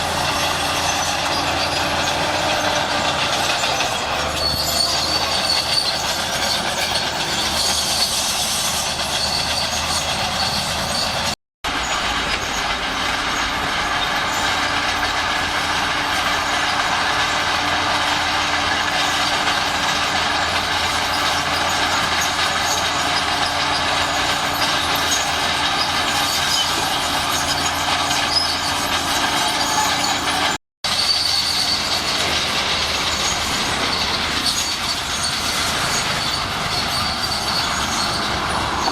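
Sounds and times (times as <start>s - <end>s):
bulldozer diesel engine running: 0.0s - 38.9s
steel tracks clattering: 0.0s - 38.9s.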